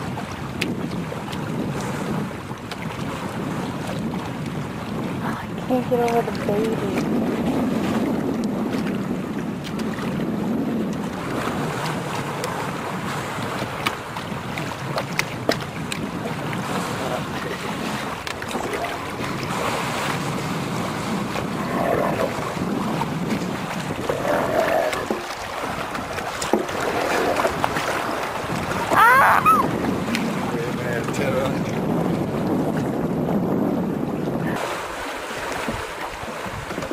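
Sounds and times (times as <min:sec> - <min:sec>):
water splashing around canoe: 0:00.0 - 0:36.9
wind buffeting microphone: 0:00.0 - 0:36.9.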